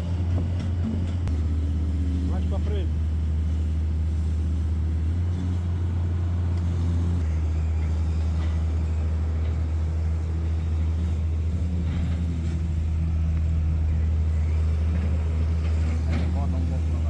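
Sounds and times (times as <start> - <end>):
heavy machinery engine droning: 0.0 - 17.0.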